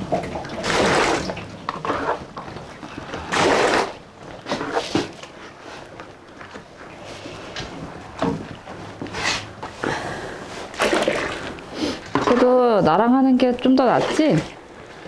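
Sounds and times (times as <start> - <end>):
liquid sloshing in a cauldron: 0.0 - 9.8, 10.4 - 15.0.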